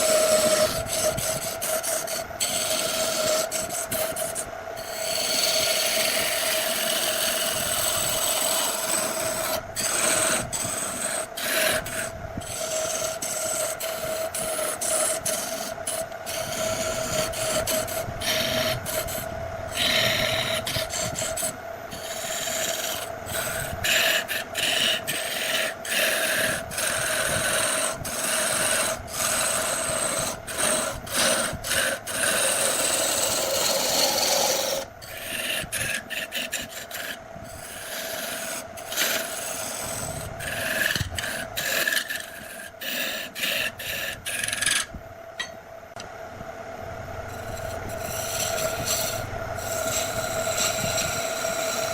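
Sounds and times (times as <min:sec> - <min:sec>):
wood lathe humming: 0:00.0 - 0:45.6, 0:47.2 - 0:51.9
tool scraping spinning wood: 0:00.0 - 0:46.0, 0:47.3 - 0:51.9.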